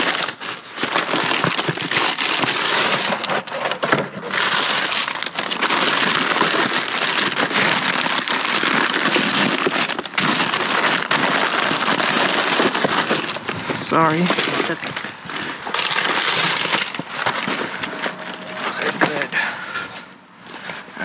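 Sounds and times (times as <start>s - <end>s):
plastic bags rustling and crinkling: 0.0s - 21.0s.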